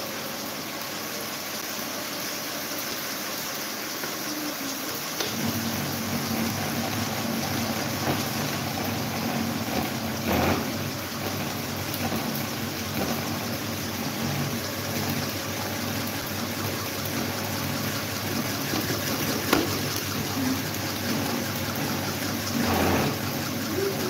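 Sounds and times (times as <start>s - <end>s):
electric fans humming: 0.0s - 24.0s.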